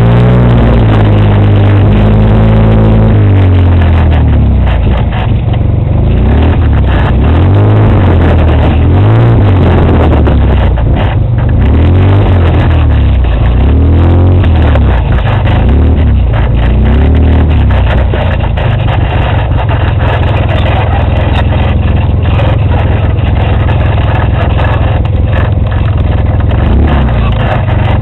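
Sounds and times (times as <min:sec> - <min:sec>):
utility vehicle engine revving: 0:00.0 - 0:28.0.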